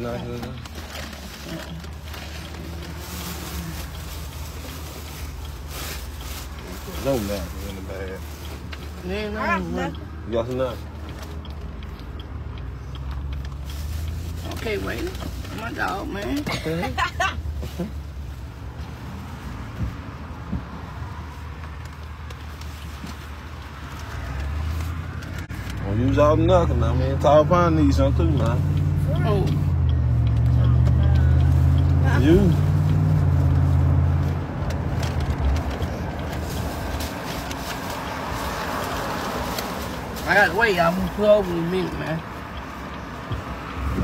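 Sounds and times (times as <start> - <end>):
car engine running: 0.0 - 20.6, 22.0 - 44.0.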